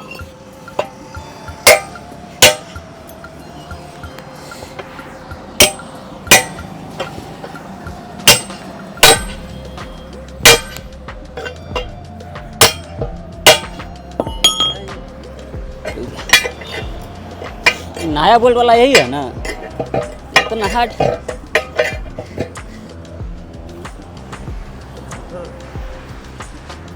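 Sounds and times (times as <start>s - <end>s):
hammer striking steel wheel rim: 0.0s - 3.2s, 4.0s - 23.0s.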